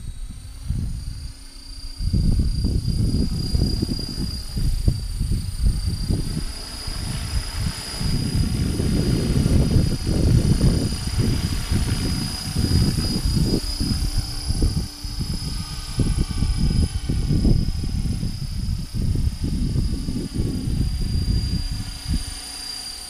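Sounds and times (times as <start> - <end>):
rc helicopter motor whine: 0.0 - 23.0
wind buffeting microphone: 0.0 - 23.0.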